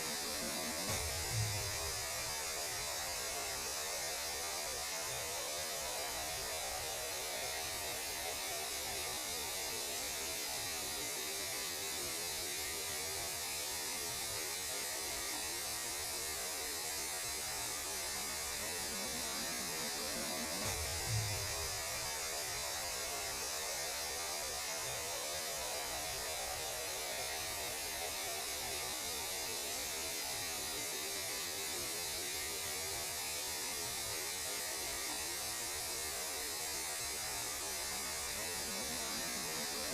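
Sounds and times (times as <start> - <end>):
radio hiss and static: 0.0 - 13.6, 14.2 - 39.9.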